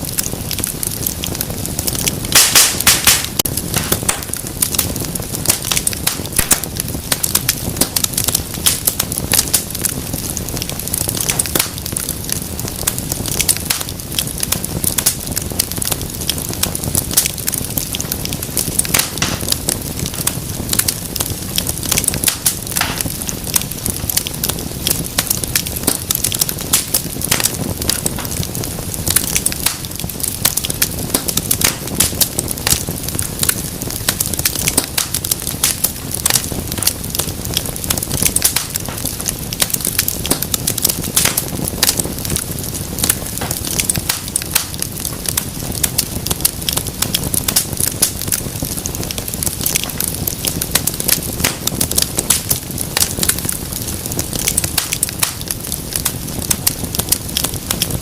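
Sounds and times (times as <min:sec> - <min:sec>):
low rush of flame: 0:00.0 - 0:58.0
wood fire popping and snapping: 0:00.0 - 0:58.0.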